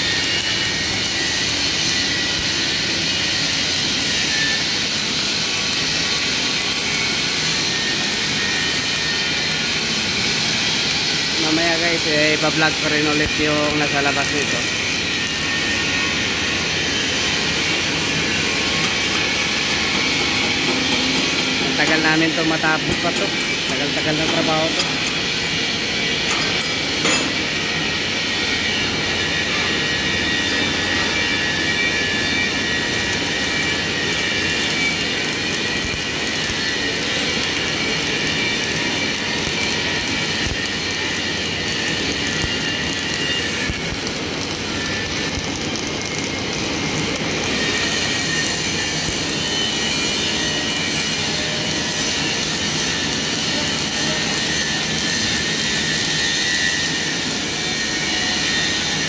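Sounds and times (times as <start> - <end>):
machine drone: 0.0 - 59.0
welding arc hissing: 0.0 - 59.0.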